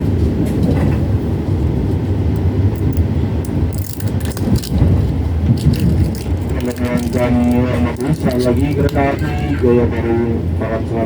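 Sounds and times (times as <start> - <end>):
train rumbling and rattling: 0.0 - 11.0.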